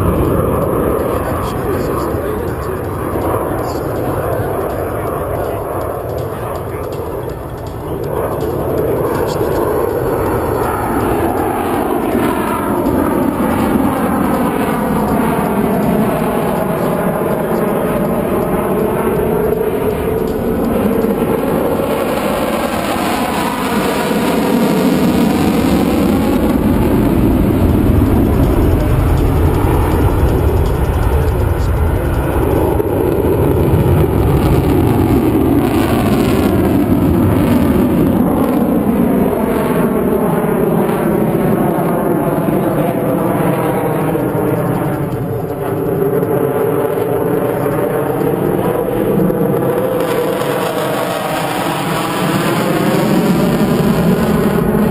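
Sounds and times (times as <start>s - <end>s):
fighter jet roar: 0.0s - 54.9s.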